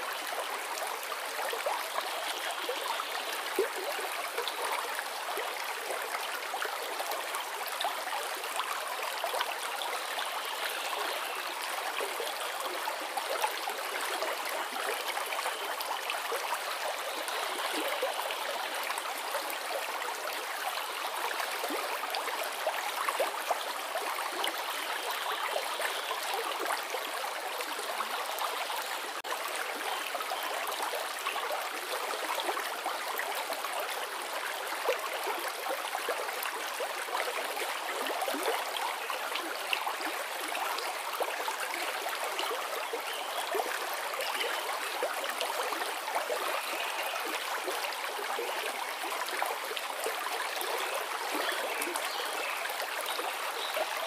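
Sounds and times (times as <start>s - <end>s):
stream flowing over its bed: 0.0s - 54.0s.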